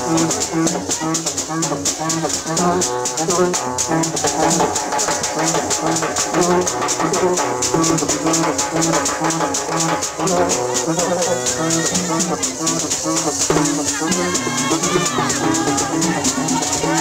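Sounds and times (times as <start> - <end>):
drums: 0.0 - 17.0
shakers and rattles: 0.0 - 17.0
voices singing: 0.0 - 17.0.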